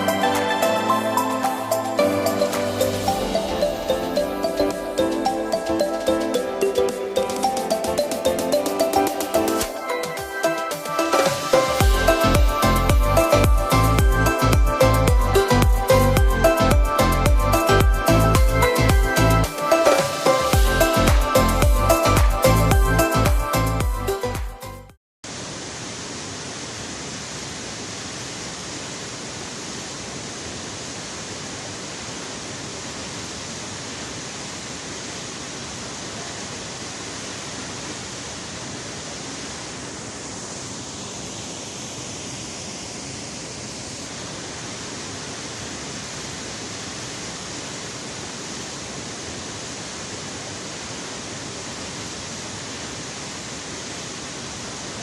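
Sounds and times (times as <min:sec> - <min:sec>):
waterfall rushing: 0:00.0 - 0:24.3, 0:25.3 - 0:55.0.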